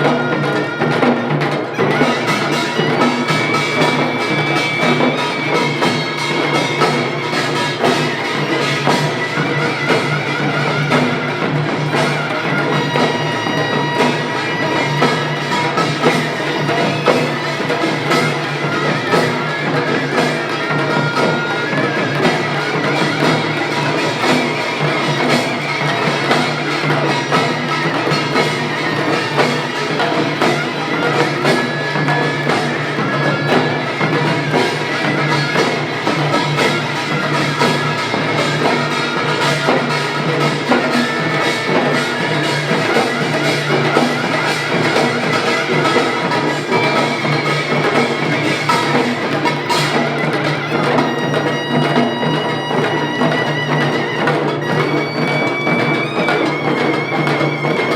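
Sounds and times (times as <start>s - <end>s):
drums and gongs beating: 0.0s - 57.9s.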